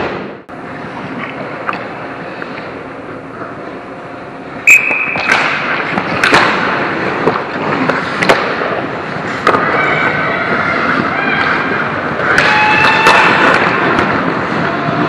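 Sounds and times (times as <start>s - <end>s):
skates scraping ice: 0.0s - 3.8s, 5.2s - 15.0s
hockey sticks and puck clacking: 0.8s - 2.8s, 4.7s - 15.0s.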